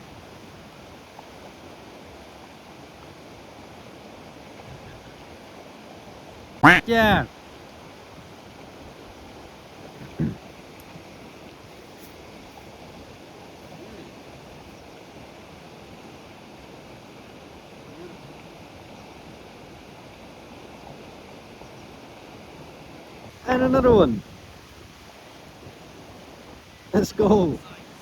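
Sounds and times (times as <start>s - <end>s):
rushing river water: 0.0s - 28.0s.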